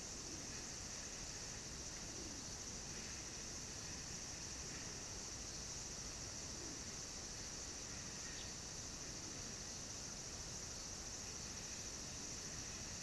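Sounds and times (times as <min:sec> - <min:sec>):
high-pitched insect chorus: 0:00.0 - 0:13.0
low outdoor hum: 0:00.0 - 0:13.0.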